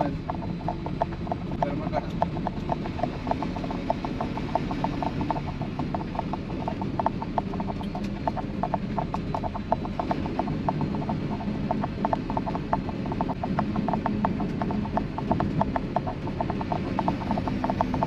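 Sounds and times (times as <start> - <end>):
light rattling tick: 0.0 - 18.0
vehicle engine and road drone: 0.0 - 18.0.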